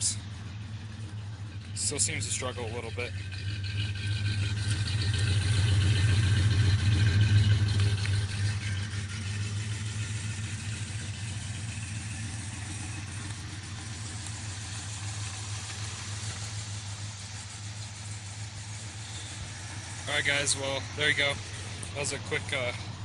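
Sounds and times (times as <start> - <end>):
vee eight engine idling: 0.0 - 23.0.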